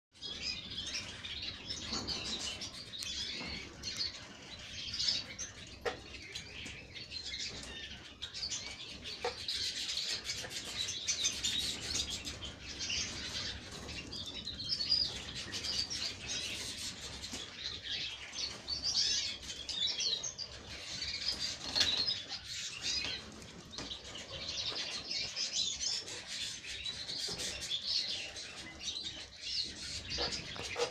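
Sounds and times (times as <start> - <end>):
canaries chirping: 0.2 - 30.9.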